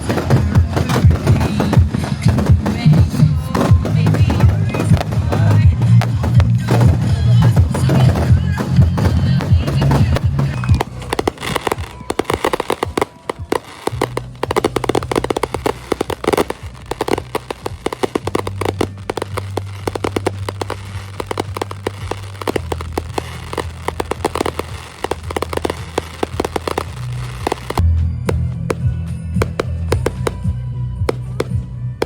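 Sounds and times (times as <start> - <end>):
fireworks crackling: 0.0 - 32.0
low background music: 0.0 - 32.0.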